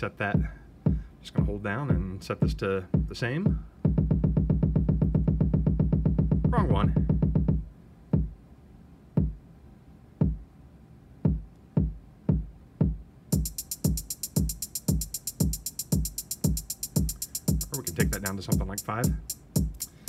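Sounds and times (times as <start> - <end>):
electronic hi-hat pattern: 0.0 - 8.4, 11.3 - 20.0
electronic kick drum: 0.4 - 8.4, 9.2 - 9.4, 10.2 - 10.4, 11.2 - 20.0.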